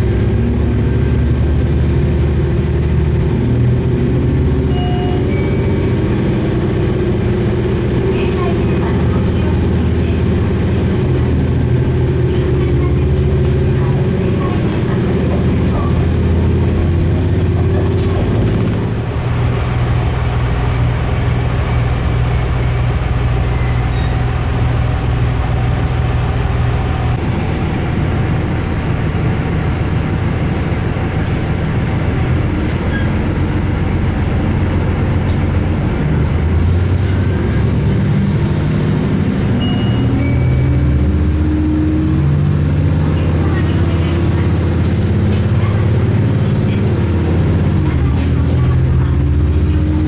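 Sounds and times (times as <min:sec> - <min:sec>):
diesel engine hum: 0:00.0 - 0:50.0
rail noise: 0:00.0 - 0:50.0.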